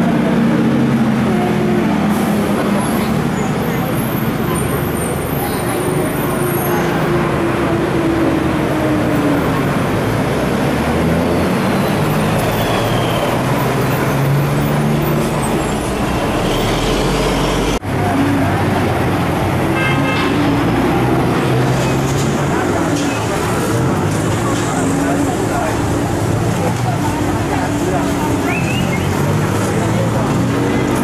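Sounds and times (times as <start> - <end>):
passing vehicle engines: 0.0 - 31.0.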